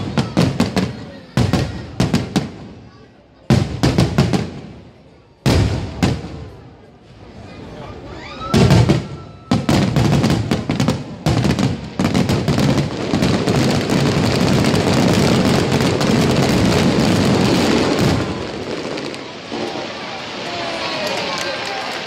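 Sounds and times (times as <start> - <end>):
fireworks bursting: 0.0 - 7.4, 8.0 - 22.0.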